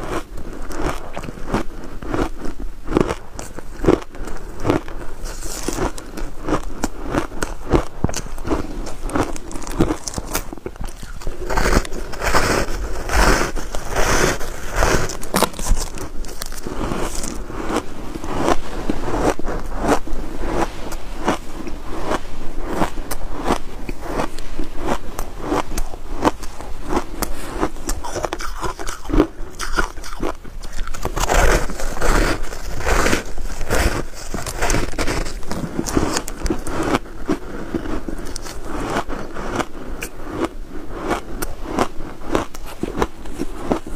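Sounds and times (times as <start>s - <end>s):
chewing crunchy shaved ice: 0.0s - 43.9s.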